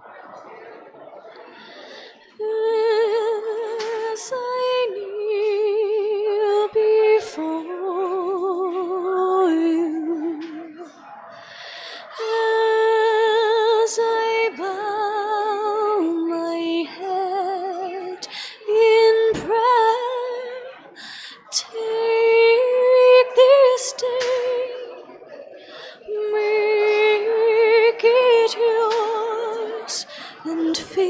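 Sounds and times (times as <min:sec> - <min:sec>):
woman singing with vibrato: 0:02.4 - 0:10.9, 0:12.0 - 0:25.0, 0:26.0 - 0:31.0.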